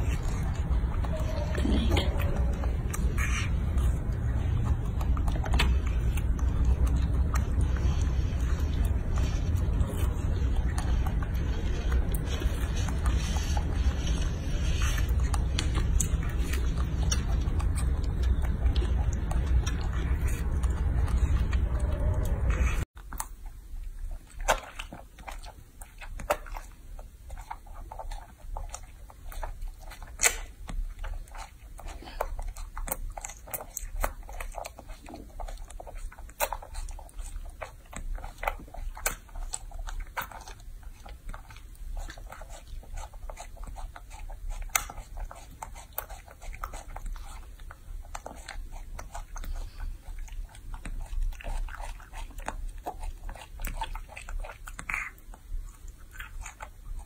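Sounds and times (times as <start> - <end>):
monkey chewing fruit: 0.0 - 57.0.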